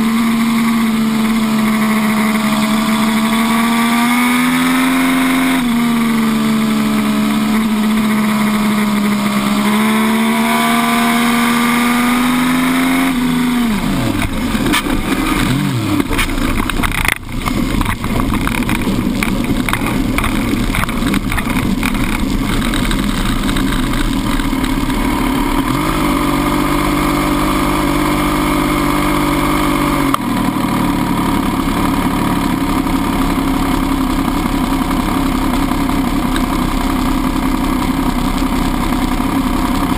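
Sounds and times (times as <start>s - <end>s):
motorcycle engine idling: 0.0s - 3.7s, 5.6s - 10.4s, 13.1s - 39.9s
motorcycle engine revving: 0.0s - 39.9s
motorcycle running through gravel: 0.0s - 39.9s.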